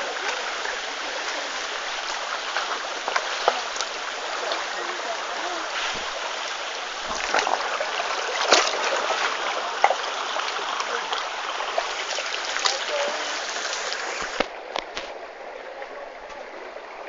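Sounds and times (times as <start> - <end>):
sharp knocks or splashes: 0.0 - 6.3, 7.0 - 15.2
stream water rushing: 0.0 - 17.0.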